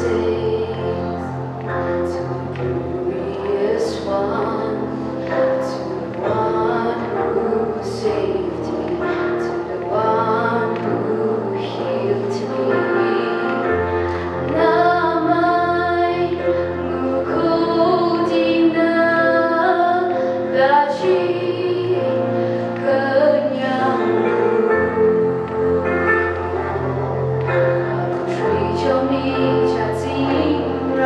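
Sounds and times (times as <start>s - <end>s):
young woman singing: 0.0s - 31.0s.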